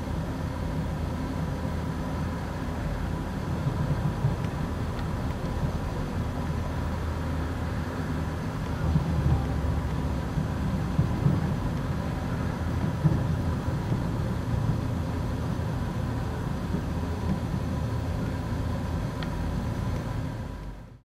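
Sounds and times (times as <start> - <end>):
faint steady hum: 0.0 - 21.0
low rumble of city ambience: 0.0 - 21.0.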